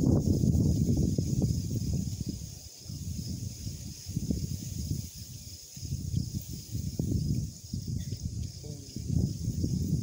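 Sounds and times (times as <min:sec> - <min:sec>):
faint high hiss: 0:00.0 - 0:10.0
wind buffeting microphone: 0:00.0 - 0:10.0.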